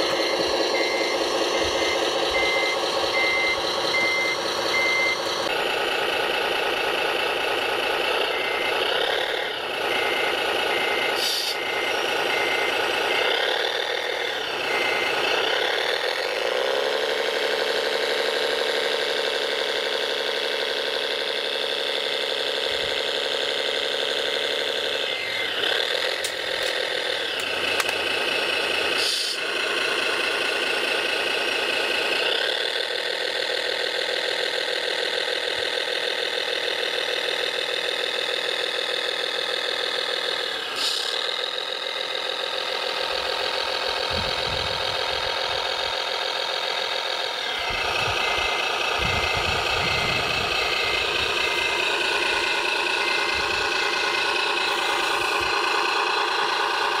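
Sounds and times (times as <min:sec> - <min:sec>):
simulated diesel engine revving: 0:00.0 - 0:57.0.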